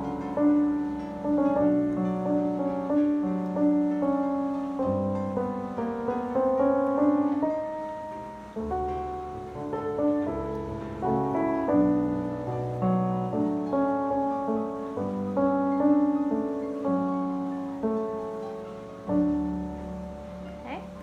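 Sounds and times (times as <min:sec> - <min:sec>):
piano chords over bass notes: 0:00.0 - 0:21.0.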